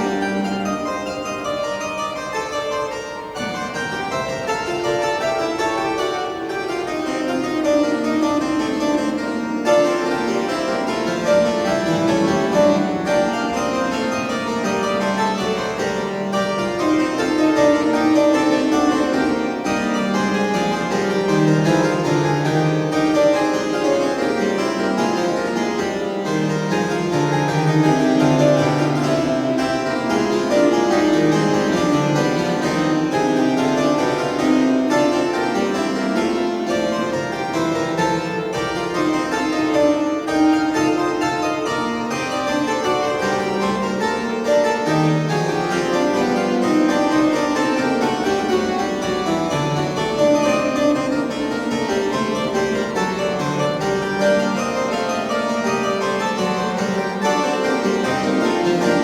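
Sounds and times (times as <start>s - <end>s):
harpsichord playing: 0.0s - 59.0s.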